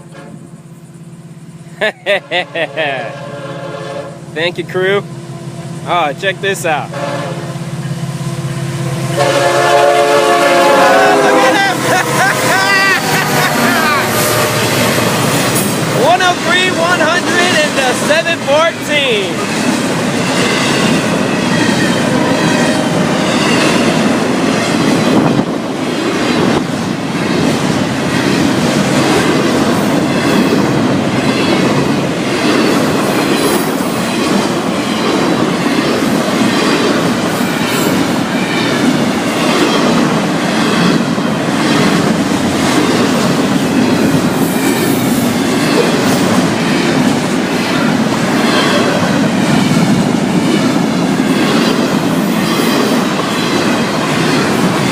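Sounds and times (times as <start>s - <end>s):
freight train rolling past: 0.0s - 54.9s.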